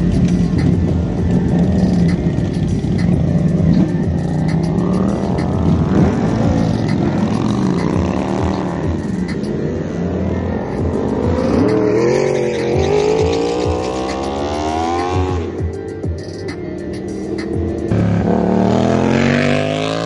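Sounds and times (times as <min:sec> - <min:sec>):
motorcycle engines idling and revving: 0:00.0 - 0:20.0.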